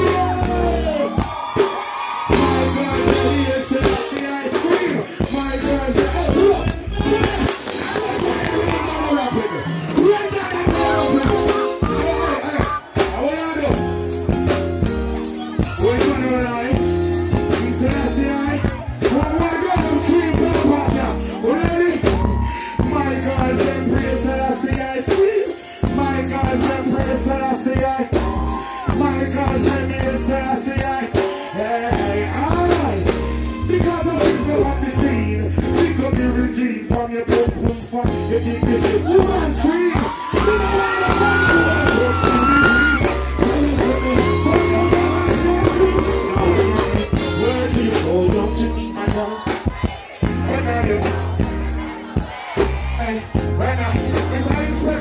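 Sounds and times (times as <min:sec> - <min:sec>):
person singing: 0:00.0 - 0:01.3, 0:02.3 - 0:08.8, 0:15.3 - 0:55.0
live reggae music: 0:00.0 - 0:55.0.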